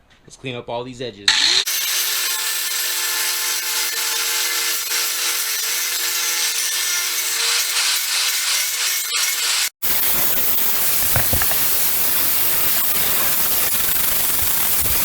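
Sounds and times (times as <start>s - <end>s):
grinding wheel on metal: 1.3s - 15.0s.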